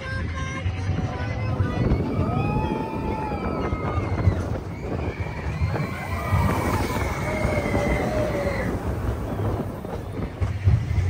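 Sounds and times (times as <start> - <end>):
roller coaster train rumbling on track: 0.0 - 11.0
riders screaming: 0.6 - 10.0.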